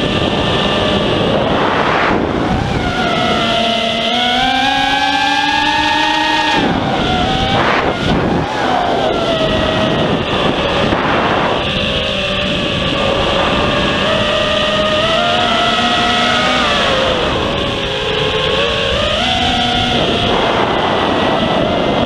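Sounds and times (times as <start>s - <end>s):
model airplane motor whine: 0.0s - 22.0s
wind rushing on microphone: 0.0s - 22.0s.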